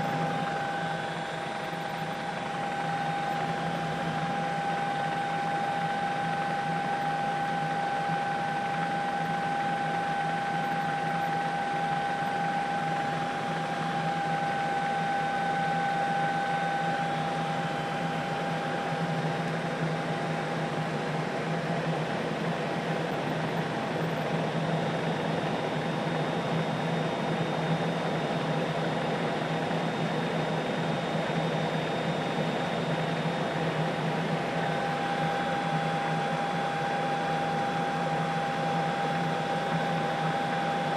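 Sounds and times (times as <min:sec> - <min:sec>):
helicopter cabin hum: 0:00.0 - 0:40.9
helicopter high whine: 0:00.0 - 0:40.9.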